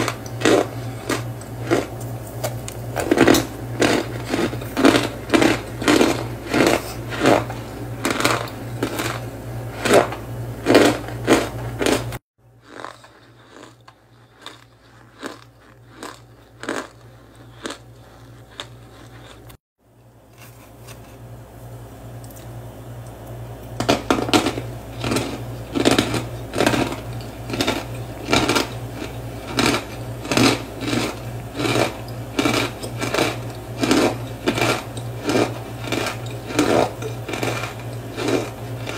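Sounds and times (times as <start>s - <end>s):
cornstarch chunks crunching: 0.0s - 19.6s, 23.8s - 38.9s.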